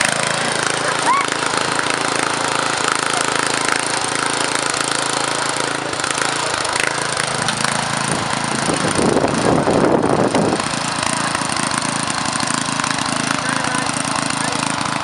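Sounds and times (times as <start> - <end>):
small tractor engine running: 0.0 - 15.0.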